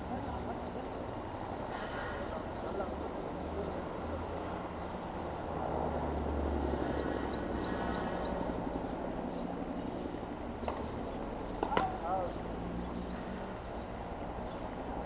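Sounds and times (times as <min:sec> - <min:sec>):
bird chirping: 0:00.0 - 0:15.0
city traffic rumble: 0:00.0 - 0:15.0.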